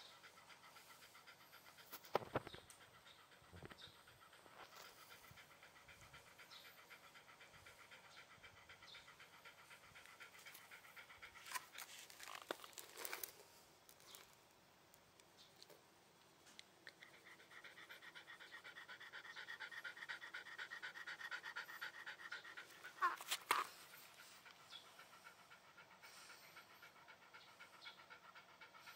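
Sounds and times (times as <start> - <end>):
dog panting rapidly: 0.0 - 12.6, 16.9 - 28.9.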